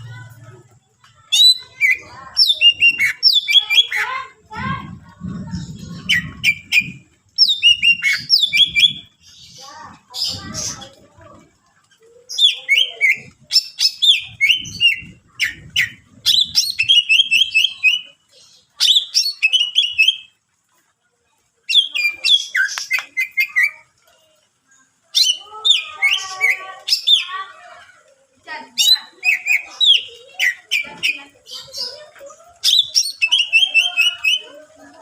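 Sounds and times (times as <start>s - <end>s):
bird singing chirps and trills: 0.0s - 20.4s, 21.6s - 35.0s.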